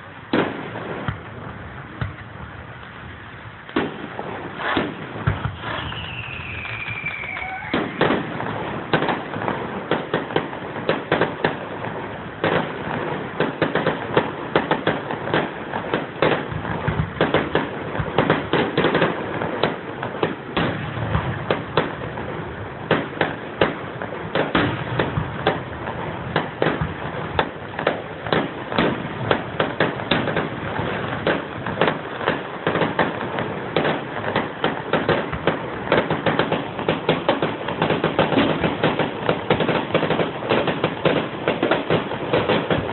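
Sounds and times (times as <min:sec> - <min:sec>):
fireworks cracking and popping: 0:00.0 - 0:42.9.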